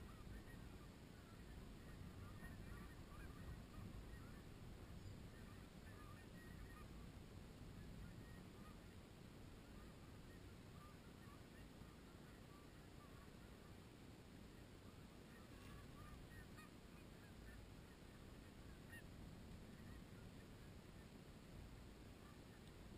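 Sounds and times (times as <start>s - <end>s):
distant geese honking: 0.0s - 22.9s
low steady rumble: 0.0s - 22.9s.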